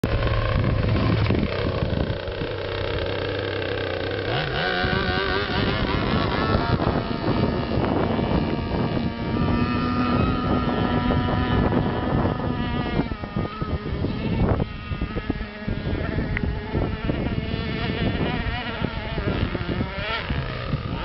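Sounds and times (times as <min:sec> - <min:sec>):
racing boat engines: 0:00.0 - 0:21.0.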